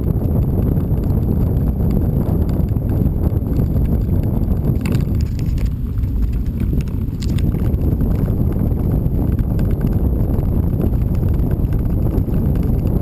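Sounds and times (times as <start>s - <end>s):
vehicle rumbling on gravel: 0.0s - 13.0s
wind buffeting microphone: 0.0s - 13.0s.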